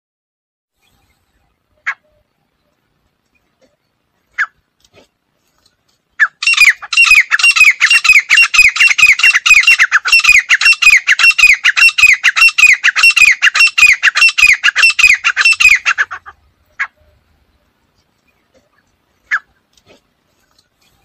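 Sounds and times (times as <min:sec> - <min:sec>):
francolin calling: 0:00.8 - 0:04.6, 0:06.1 - 0:19.7.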